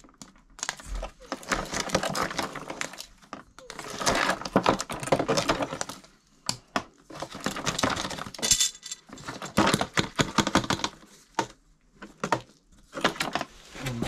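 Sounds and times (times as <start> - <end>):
plastic clicks and clattering: 0.0 - 13.5.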